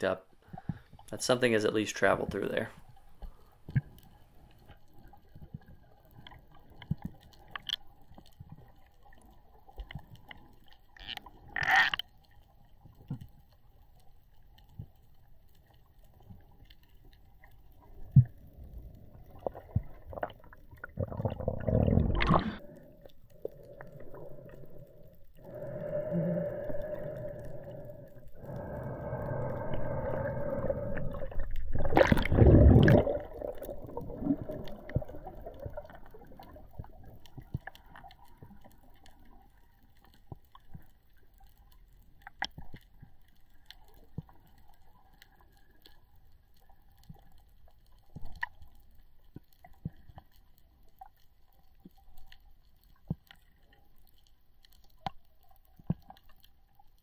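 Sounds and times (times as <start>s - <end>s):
faint steady hum: 0.0s - 56.8s
rushing water underwater: 0.4s - 57.0s.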